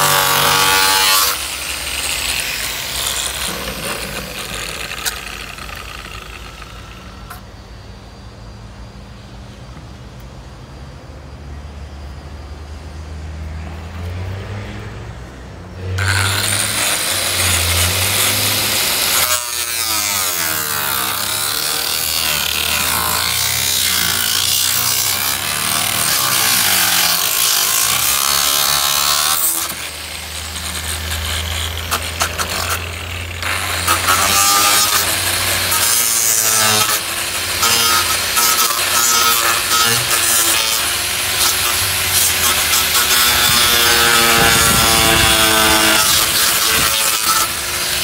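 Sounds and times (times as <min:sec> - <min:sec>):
power sander rasping: 0:00.0 - 0:07.5, 0:15.8 - 0:48.0.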